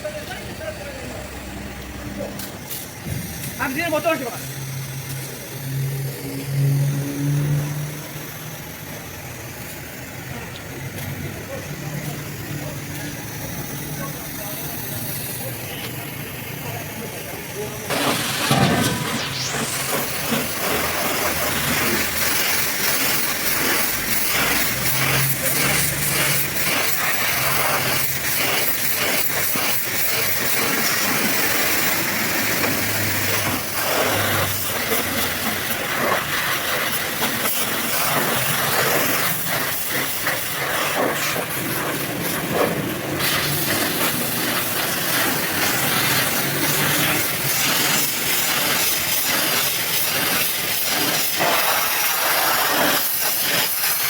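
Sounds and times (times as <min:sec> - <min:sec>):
pressure washer spraying water: 0:00.0 - 0:54.0
spray spattering off surfaces: 0:00.0 - 0:54.0.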